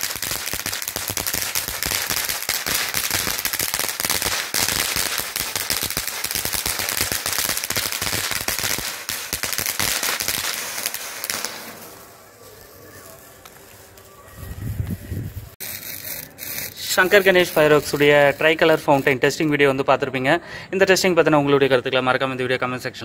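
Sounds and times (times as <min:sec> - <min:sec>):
firework fountain hissing and crackling: 0:00.0 - 0:19.6.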